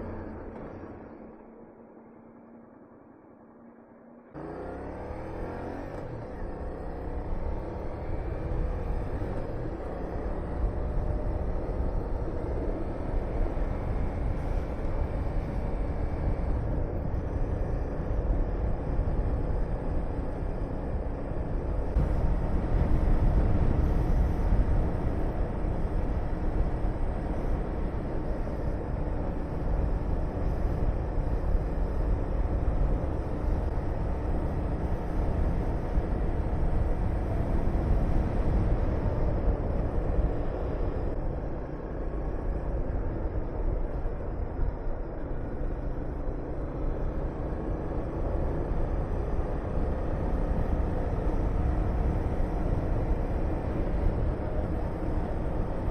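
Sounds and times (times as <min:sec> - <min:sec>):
wind rushing over microphone: 0:07.4 - 0:55.9.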